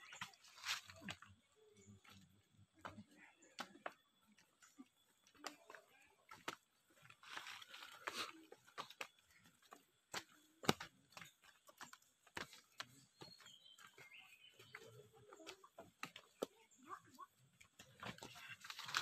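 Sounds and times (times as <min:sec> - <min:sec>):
footsteps on dirt and stone path: 0:00.0 - 0:19.0.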